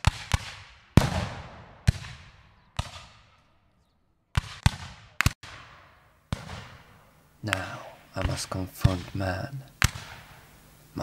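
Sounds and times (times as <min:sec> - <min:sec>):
gunshots with echoing tail: 0:00.0 - 0:03.4, 0:04.3 - 0:09.2, 0:09.8 - 0:10.5.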